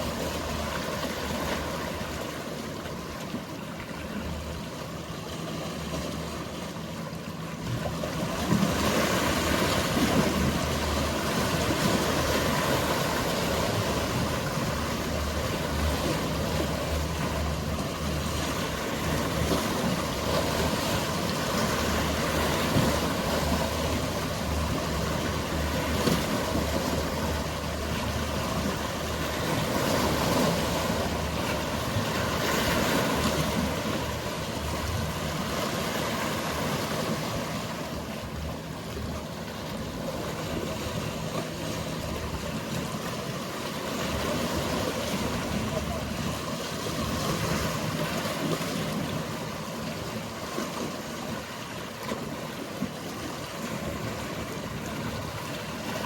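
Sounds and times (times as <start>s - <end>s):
boat engine hum: 0.0s - 56.0s
sea waves washing: 0.0s - 56.0s.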